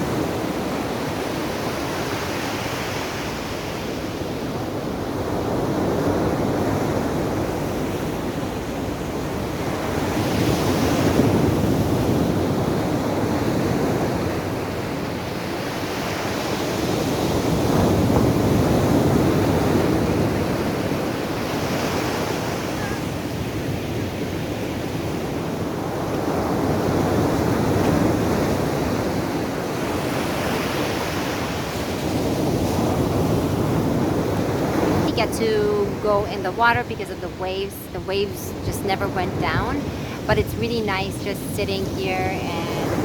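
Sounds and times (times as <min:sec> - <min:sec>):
surf breaking on beach: 0:00.0 - 0:36.9.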